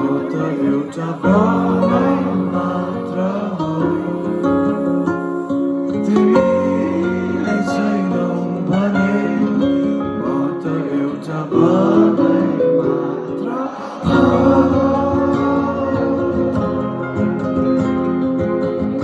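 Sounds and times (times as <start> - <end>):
person singing: 0.0 - 18.0
strummed guitar: 0.0 - 19.0.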